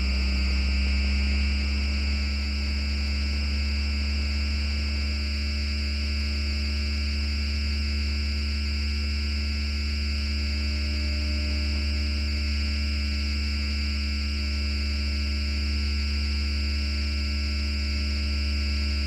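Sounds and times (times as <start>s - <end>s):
deep electrical hum in tram: 0.0s - 19.0s.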